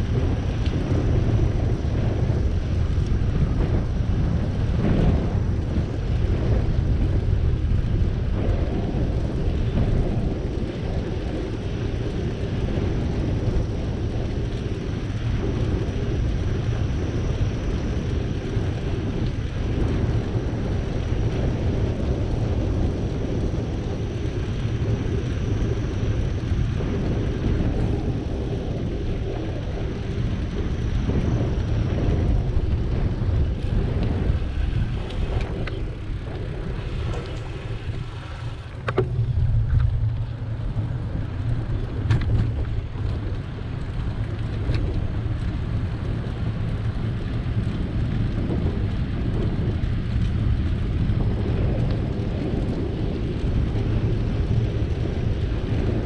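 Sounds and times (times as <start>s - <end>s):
bicycle tyre and riding noise: 0.0s - 56.0s
wind rushing over microphone: 0.0s - 56.0s.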